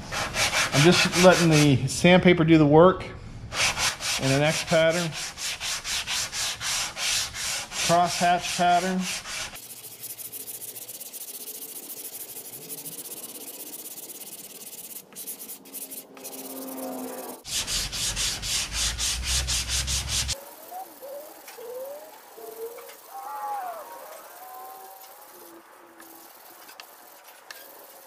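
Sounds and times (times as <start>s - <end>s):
sandpaper rasping on putty: 0.1s - 1.7s, 3.6s - 21.9s, 24.0s - 28.0s.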